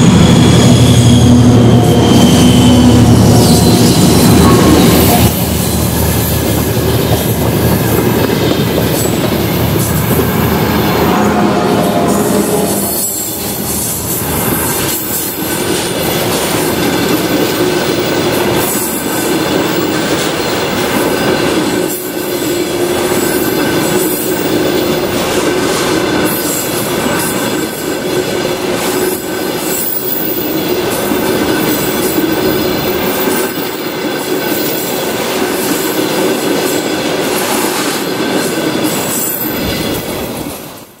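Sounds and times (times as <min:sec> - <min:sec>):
train wheels rolling on rails: 0:00.0 - 0:41.0.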